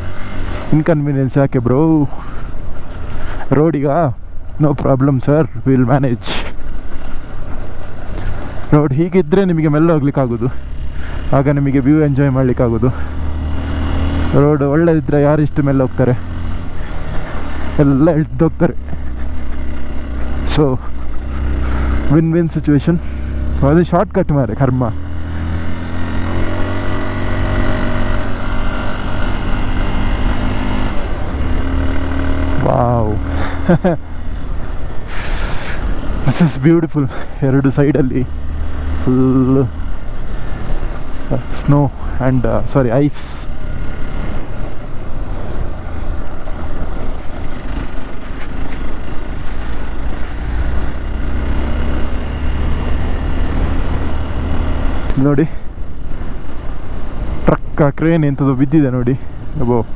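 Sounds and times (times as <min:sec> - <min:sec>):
road and wind noise: 0:00.0 - 0:59.9
motorcycle engine running: 0:06.6 - 0:57.4.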